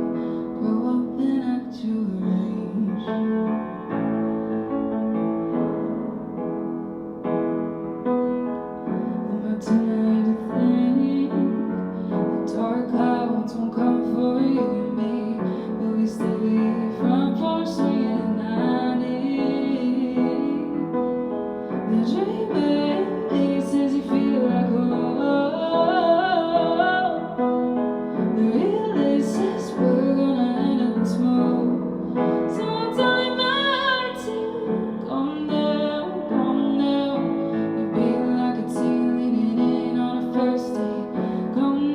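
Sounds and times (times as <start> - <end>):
woman singing: 0.0 - 3.5, 9.1 - 41.9
piano accompaniment: 0.0 - 41.9.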